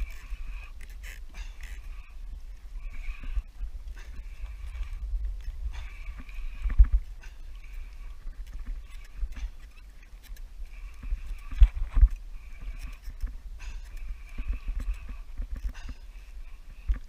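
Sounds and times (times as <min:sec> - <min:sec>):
fishing reel whirring: 0:00.0 - 0:17.0.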